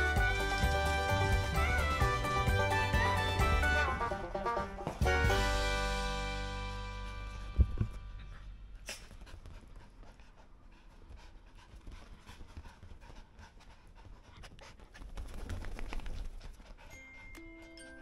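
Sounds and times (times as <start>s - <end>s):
small dog panting: 0.0s - 3.8s, 7.0s - 18.0s.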